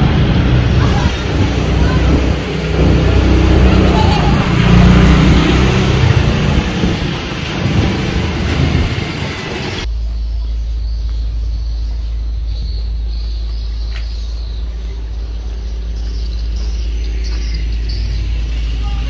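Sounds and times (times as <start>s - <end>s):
outdoor rumble: 0.0s - 19.0s.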